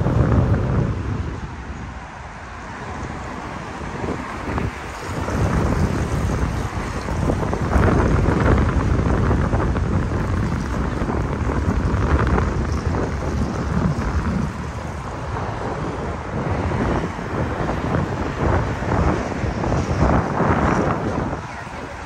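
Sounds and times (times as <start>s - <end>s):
city street traffic: 0.0s - 22.0s
wind buffeting microphone: 0.0s - 22.0s.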